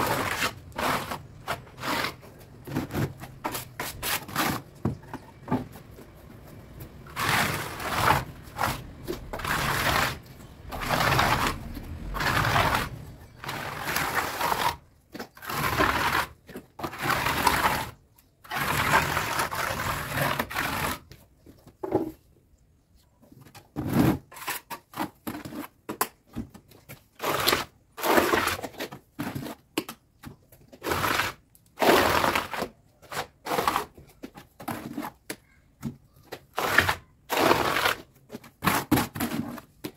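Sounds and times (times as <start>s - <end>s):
tool scraping gritty mortar: 0.0s - 21.6s, 23.8s - 39.9s.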